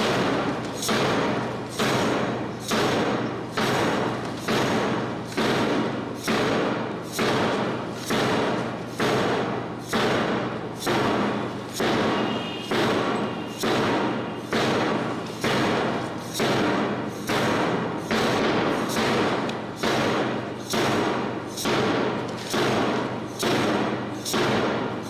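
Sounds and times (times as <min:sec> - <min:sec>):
echoing thumps: 0:00.0 - 0:25.0.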